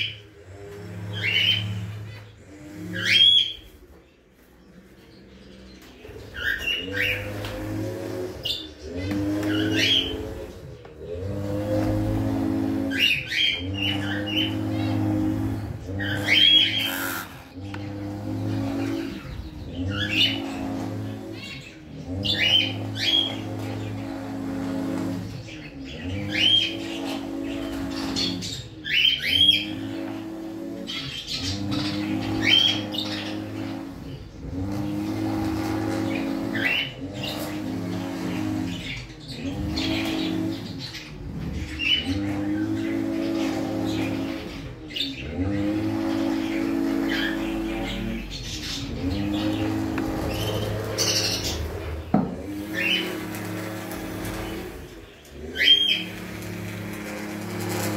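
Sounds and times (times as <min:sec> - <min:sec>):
parrots chirping: 0:00.0 - 0:57.9.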